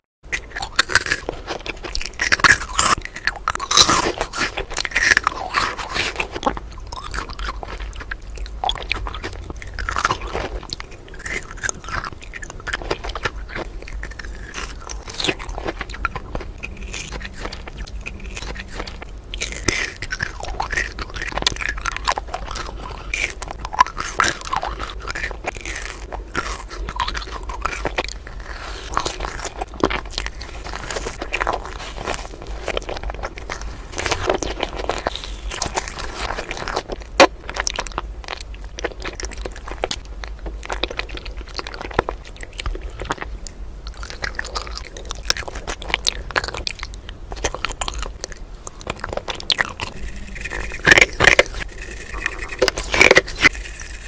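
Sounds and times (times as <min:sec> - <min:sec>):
crunchy chewing of sweets: 0:00.2 - 0:54.0.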